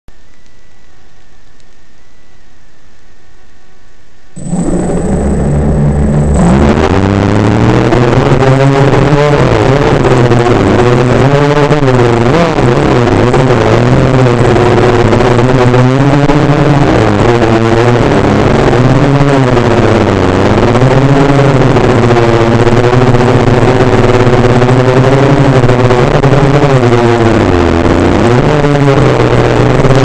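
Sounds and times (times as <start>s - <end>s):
quadcopter motors droning: 4.4s - 30.0s.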